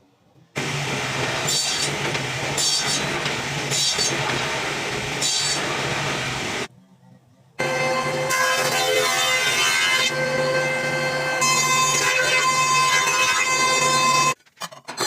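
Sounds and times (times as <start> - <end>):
wood being sawn: 0.6 - 6.7, 7.6 - 14.4.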